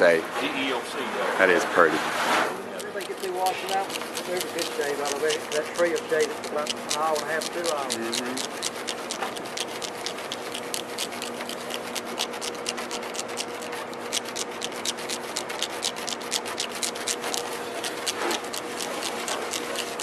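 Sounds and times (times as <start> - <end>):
razor blade scraping paint: 2.5 - 20.0.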